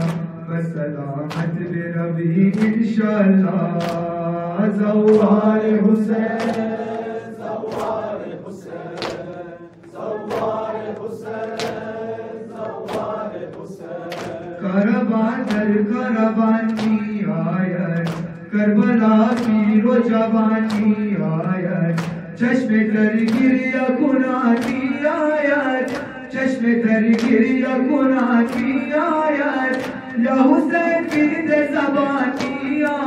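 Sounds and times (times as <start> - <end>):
man chanting a lament: 0.0 - 7.6, 13.8 - 33.0
rhythmic sharp slaps: 0.0 - 33.0.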